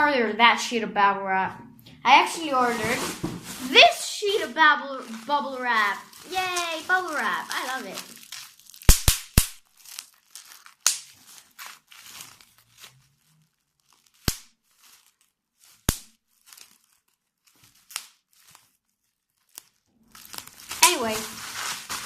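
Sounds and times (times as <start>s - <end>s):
plastic sheet crinkling: 2.1s - 22.0s
bubble wrap popping: 2.2s - 22.0s.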